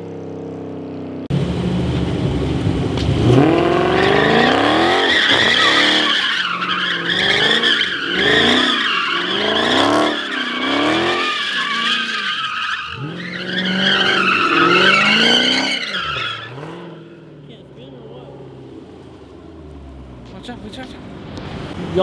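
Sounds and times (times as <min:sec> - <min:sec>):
car engine revving: 0:01.0 - 0:22.0
tires squealing: 0:03.2 - 0:22.0.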